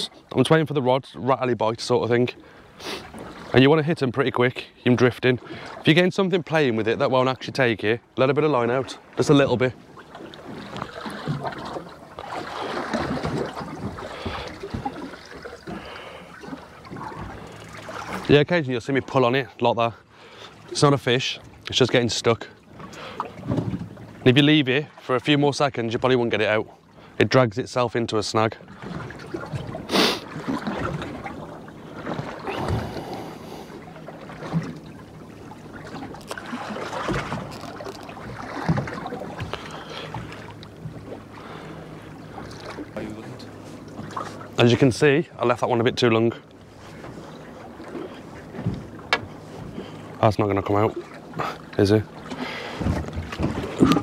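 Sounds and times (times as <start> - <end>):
water lapping against boat hull: 0.0 - 54.0
wind: 0.0 - 54.0.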